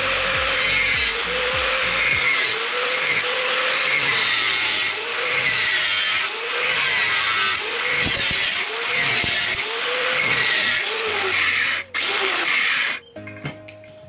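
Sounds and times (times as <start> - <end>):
hand saw rasping through steel: 0.0 - 13.1.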